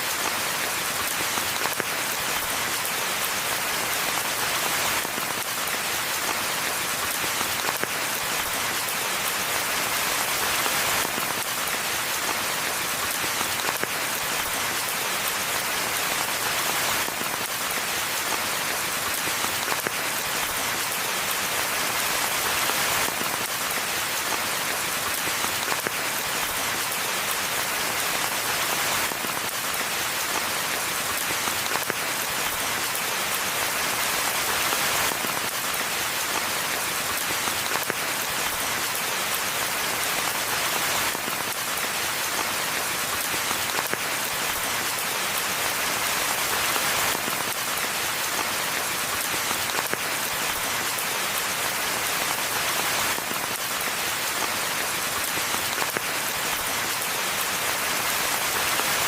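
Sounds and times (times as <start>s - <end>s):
rain falling on a pathway: 0.0s - 59.0s.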